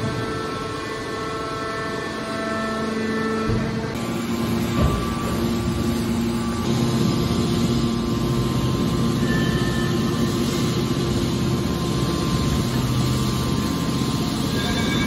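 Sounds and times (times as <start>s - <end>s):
hydraulic baler humming: 0.0s - 15.0s.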